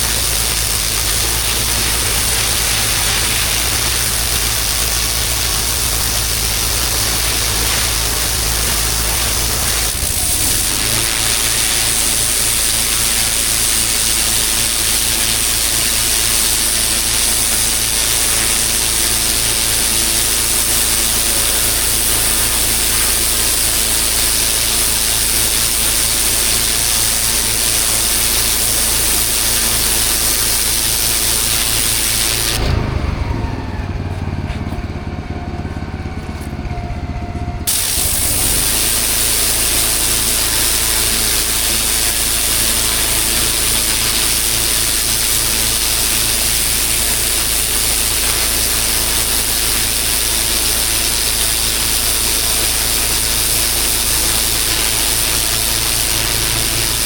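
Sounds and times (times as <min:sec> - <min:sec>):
pressure washer spraying paving: 0:00.0 - 0:33.5, 0:37.6 - 0:57.0
pump engine hum: 0:00.0 - 0:57.0.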